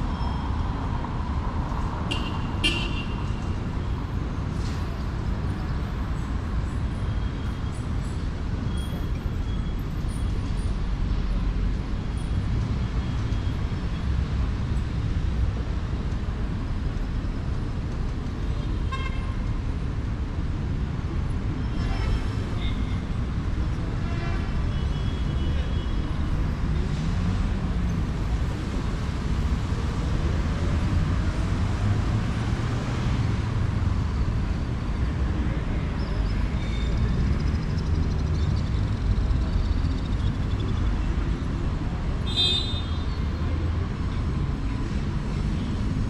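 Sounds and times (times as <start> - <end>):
passing cars and buses: 0.0 - 46.0.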